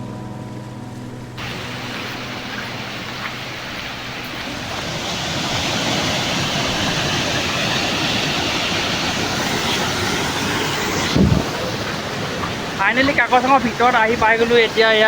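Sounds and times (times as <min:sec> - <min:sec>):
flowing and falling water: 0:01.3 - 0:15.0.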